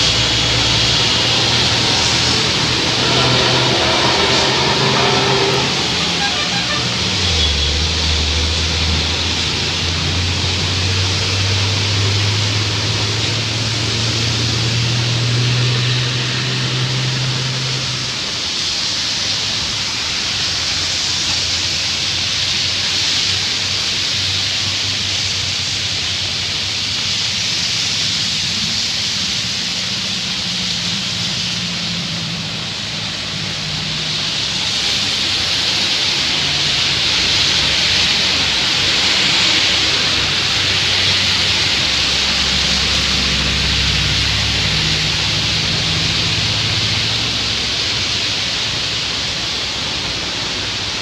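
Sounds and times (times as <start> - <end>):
engines of passing vehicles humming: 0.0 - 51.0
rain hissing: 0.0 - 51.0
tyres on wet asphalt: 0.0 - 51.0.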